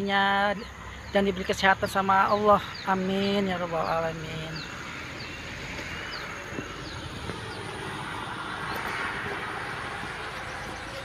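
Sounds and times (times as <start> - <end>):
outdoor hiss and rumble: 0.0 - 11.0.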